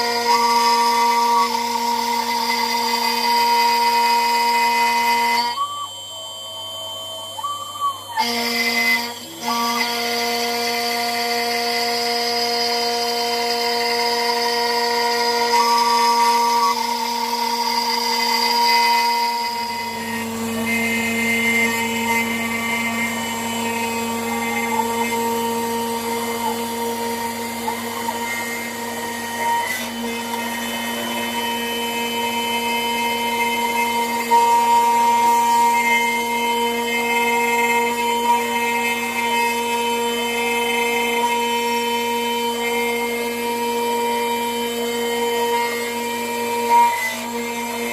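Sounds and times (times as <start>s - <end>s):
bit cutting metal: 0.0s - 47.9s
router spindle whining: 0.0s - 47.9s.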